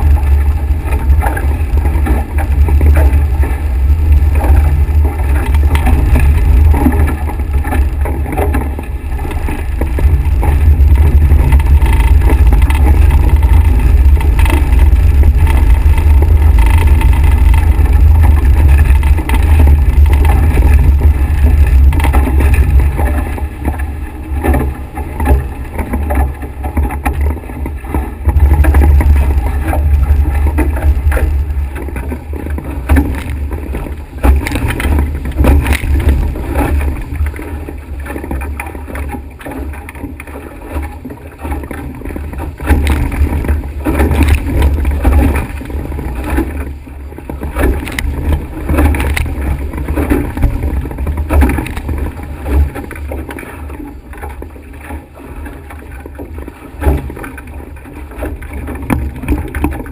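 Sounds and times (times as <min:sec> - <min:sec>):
water splashing along hulls: 0:00.0 - 0:59.9
wind rumbling on microphone: 0:00.0 - 0:59.9.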